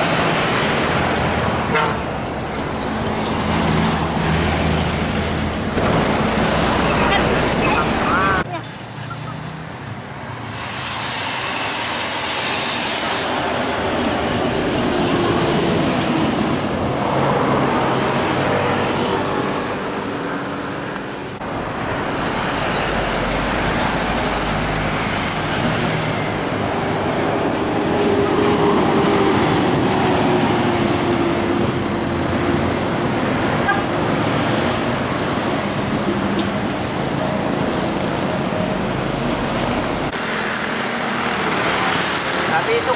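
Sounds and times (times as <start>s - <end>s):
bus engine: 0.0s - 42.9s
cars passing: 0.0s - 42.9s.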